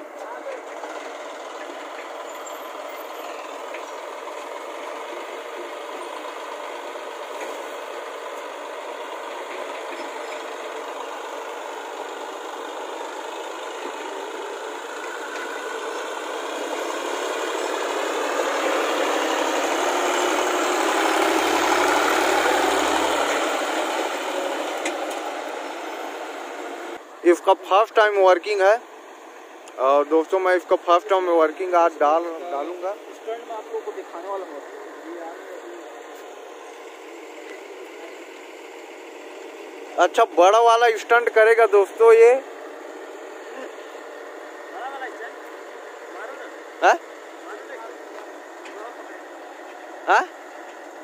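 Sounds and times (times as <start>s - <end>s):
excavator diesel engine: 0.0s - 51.0s
tractor passing with deep rumble: 0.0s - 51.0s.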